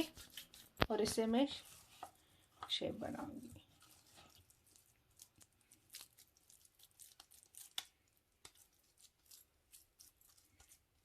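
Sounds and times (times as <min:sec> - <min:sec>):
wet squishing of hands shaping food: 0:00.0 - 0:11.0.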